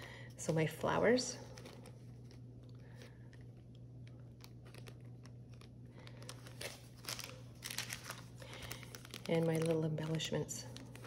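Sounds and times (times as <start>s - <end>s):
low steady hum: 0.0s - 11.0s
plastic bag crinkling: 1.1s - 11.0s.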